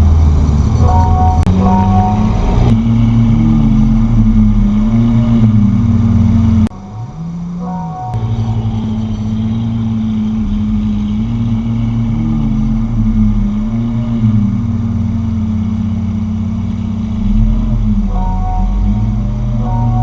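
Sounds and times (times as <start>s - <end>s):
car engine droning: 0.0s - 20.0s
road rumble: 0.0s - 20.0s.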